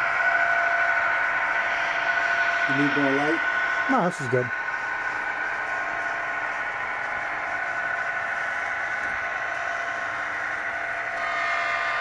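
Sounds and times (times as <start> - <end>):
model train humming: 0.0 - 12.0.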